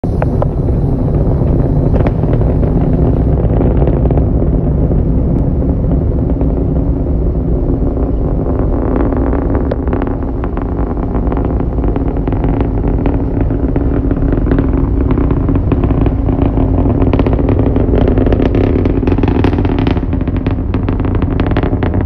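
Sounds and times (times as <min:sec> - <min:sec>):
rocket engine crackling: 0:00.0 - 0:22.0
rocket engines rumbling: 0:00.0 - 0:22.0.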